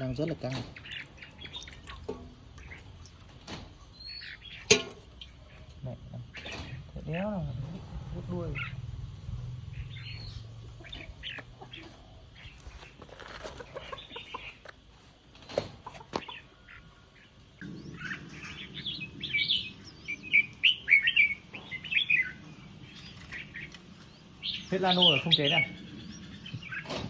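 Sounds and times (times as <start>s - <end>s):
bulbuls chirping: 0.0s - 27.0s.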